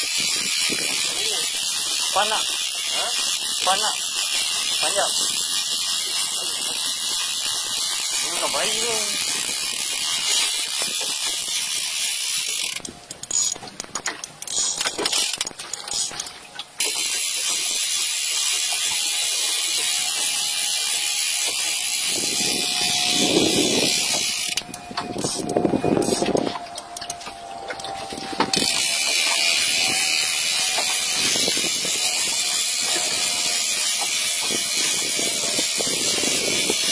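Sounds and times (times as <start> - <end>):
fishing reel drag ratcheting: 0.0 - 36.9.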